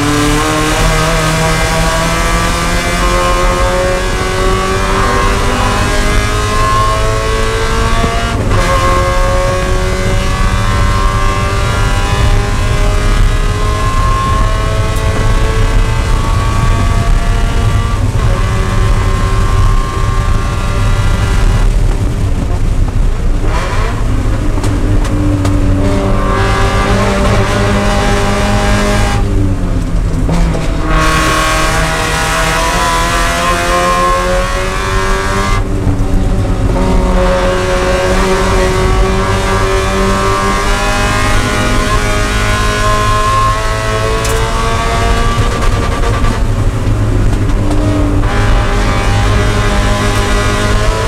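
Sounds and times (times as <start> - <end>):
race car engine at high revs: 0.0 - 51.0.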